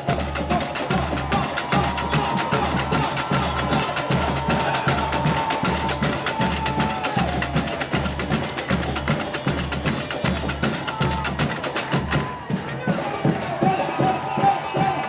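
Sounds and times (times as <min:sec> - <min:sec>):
samba drum ensemble: 0:00.0 - 0:15.0.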